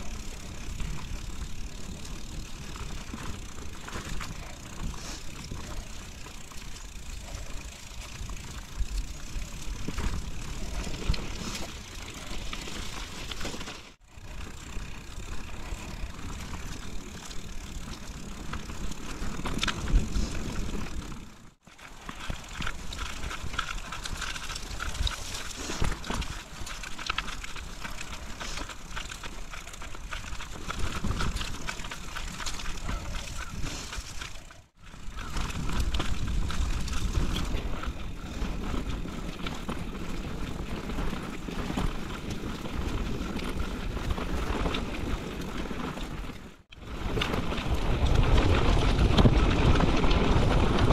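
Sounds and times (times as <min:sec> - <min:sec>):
bike clicks and rattles: 0:00.0 - 0:50.9
tyres rolling over dirt: 0:00.0 - 0:50.9.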